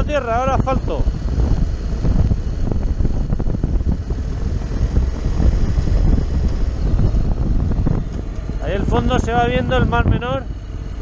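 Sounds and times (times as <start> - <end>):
motorcycle engine running: 0.0 - 11.0
tyres on asphalt: 0.0 - 11.0
wind buffeting microphone: 0.0 - 11.0.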